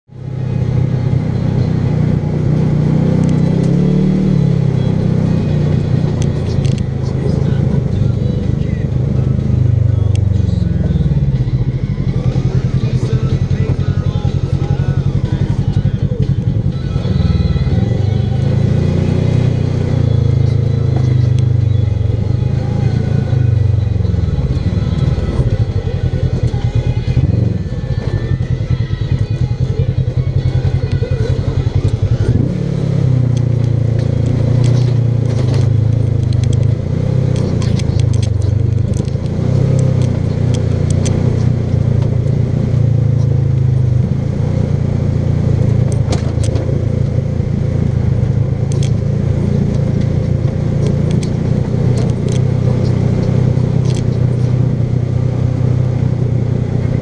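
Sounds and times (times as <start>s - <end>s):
vehicle engine running under throttle: 0.1s - 57.0s.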